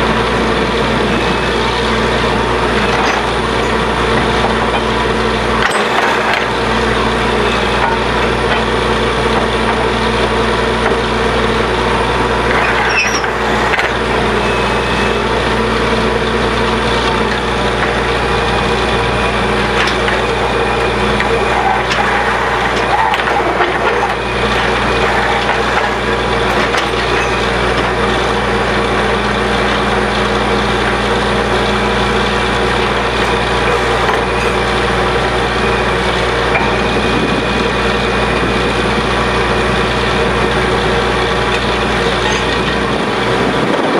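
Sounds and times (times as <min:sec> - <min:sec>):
drilling rig machine drone: 0:00.0 - 0:43.9
drilling knocks: 0:00.8 - 0:43.8.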